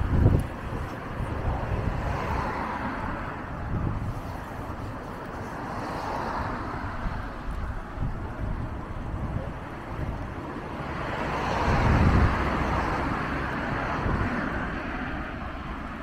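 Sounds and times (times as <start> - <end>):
passing traffic: 0.0 - 16.0
wind buffeting microphone: 0.0 - 16.0
wind hiss: 0.0 - 16.0.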